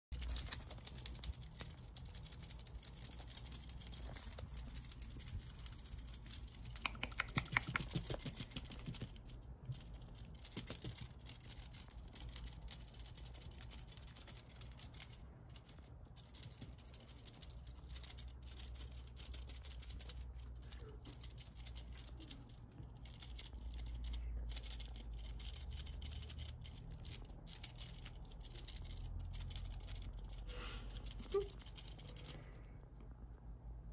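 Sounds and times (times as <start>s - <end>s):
kittens' claws scratching: 0.1s - 32.7s.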